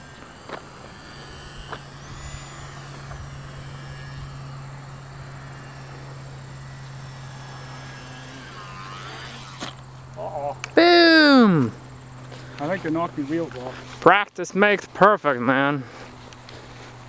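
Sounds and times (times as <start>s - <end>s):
electric motor and propeller droning: 0.0s - 17.0s.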